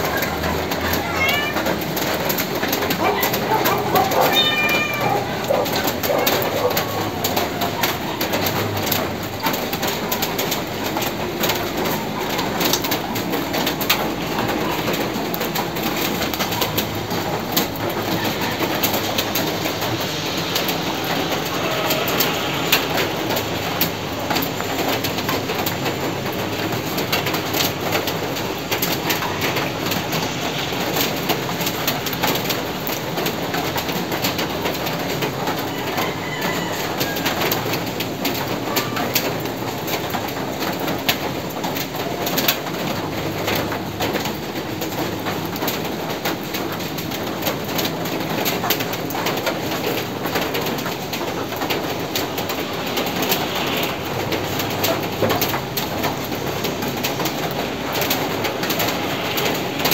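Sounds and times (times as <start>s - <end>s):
heavy rain: 0.0s - 59.9s
water dripping and pattering: 0.0s - 59.9s.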